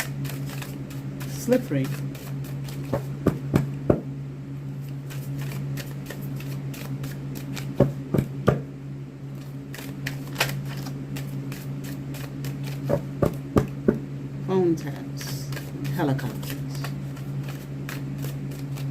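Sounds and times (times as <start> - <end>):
cards being shuffled: 0.0 - 3.8, 4.8 - 8.6, 9.3 - 14.0, 15.2 - 18.9.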